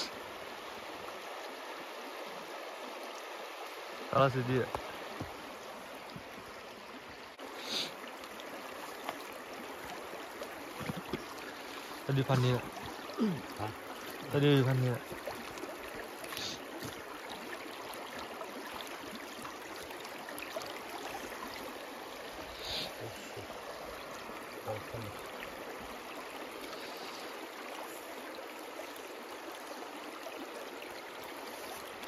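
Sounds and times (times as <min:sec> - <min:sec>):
stream running over rocks: 0:00.0 - 0:32.0.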